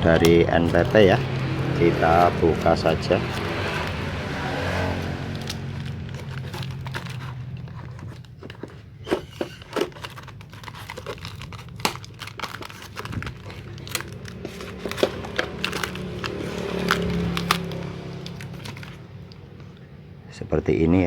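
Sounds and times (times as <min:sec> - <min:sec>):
packaging crinkling and tearing: 0:00.0 - 0:19.8.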